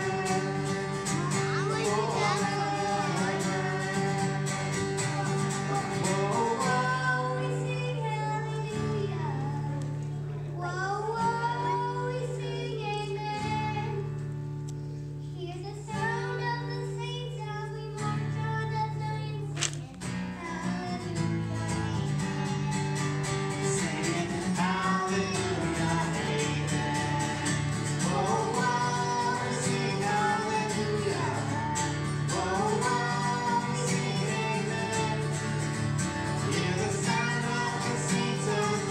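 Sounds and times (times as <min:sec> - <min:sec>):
boy singing into microphone: 0:00.0 - 0:14.3, 0:15.2 - 0:38.9
acoustic guitar strumming: 0:00.0 - 0:38.9.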